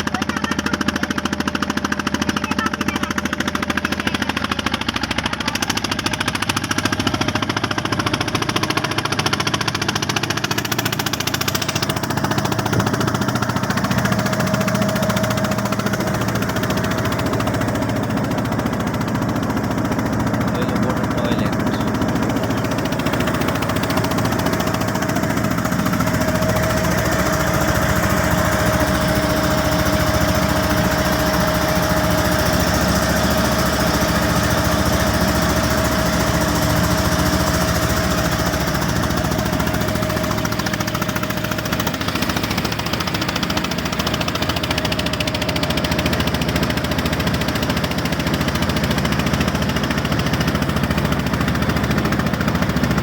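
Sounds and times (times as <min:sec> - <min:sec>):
boat engine knocking rumble: 0:00.0 - 0:53.0.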